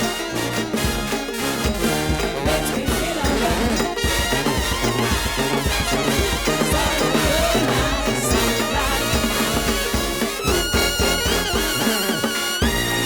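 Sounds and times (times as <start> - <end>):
horn holding high note with vibrato: 0.0 - 13.0
jazz band music: 0.0 - 13.0.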